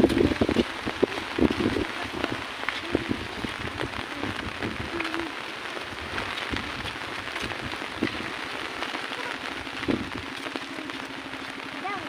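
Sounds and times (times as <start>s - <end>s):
heavy rain hissing: 0.0s - 12.0s
sharp taps of raindrops: 0.0s - 12.0s.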